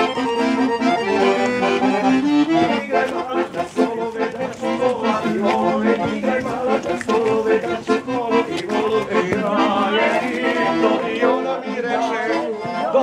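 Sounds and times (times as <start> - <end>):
accordion folk dance tune: 0.0 - 13.0.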